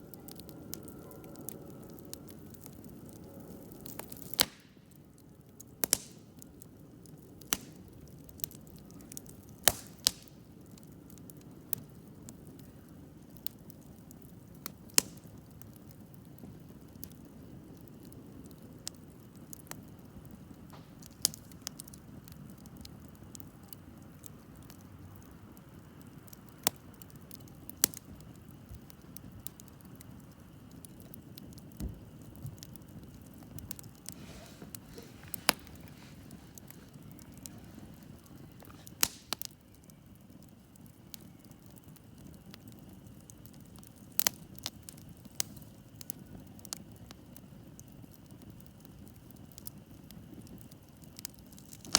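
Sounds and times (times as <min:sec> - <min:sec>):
campfire crackling and popping: 0:00.0 - 0:51.9
hiss of flames: 0:00.0 - 0:51.9.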